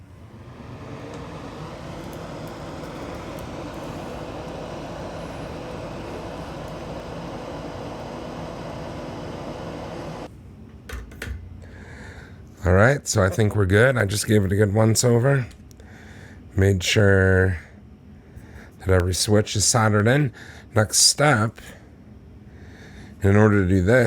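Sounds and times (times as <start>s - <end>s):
exhaust fan whooshing hum: 0.0s - 24.0s.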